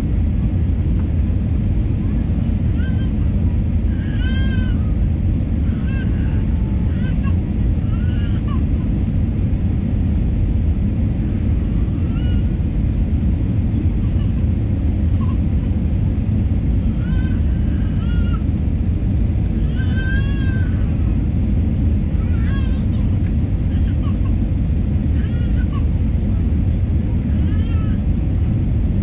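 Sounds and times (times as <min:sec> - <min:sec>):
airliner cabin roar: 0:00.0 - 0:29.0.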